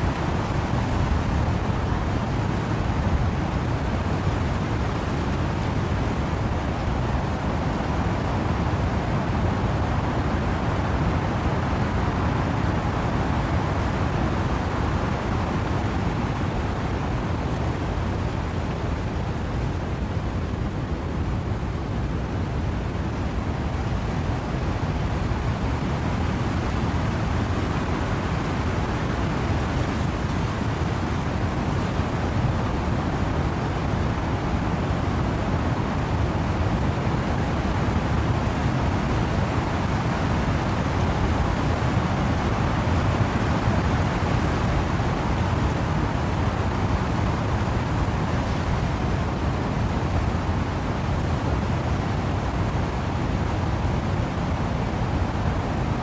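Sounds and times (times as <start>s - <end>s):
steady rain: 0.0s - 56.0s
wind rushing through trees: 0.0s - 56.0s.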